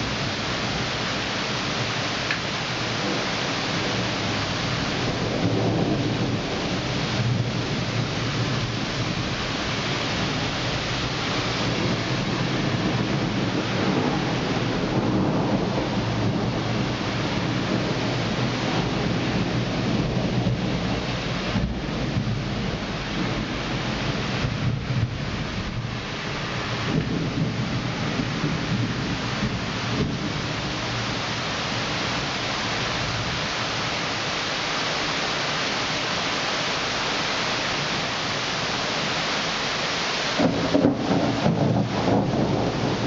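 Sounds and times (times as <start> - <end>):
low thunder rumbling: 0.0 - 33.5, 40.3 - 43.0
steady rain: 0.0 - 43.0.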